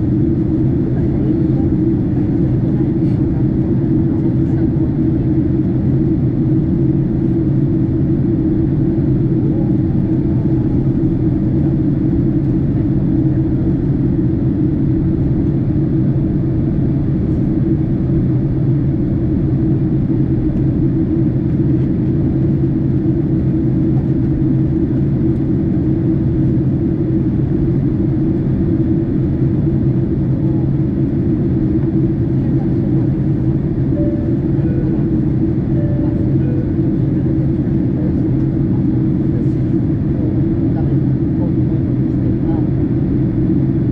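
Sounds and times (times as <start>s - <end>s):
airliner cabin drone: 0.0s - 43.9s.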